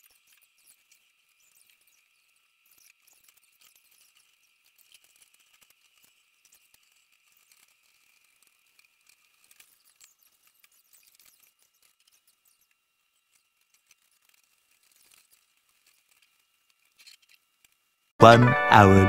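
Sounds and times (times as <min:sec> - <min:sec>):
faint high-pitched ticks and clicks: 0:00.0 - 0:17.9.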